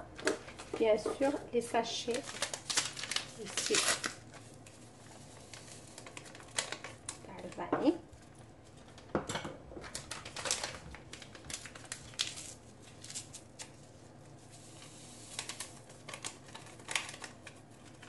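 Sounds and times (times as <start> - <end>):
paper sachets tearing and crinkling: 0.4 - 7.6, 9.9 - 18.0.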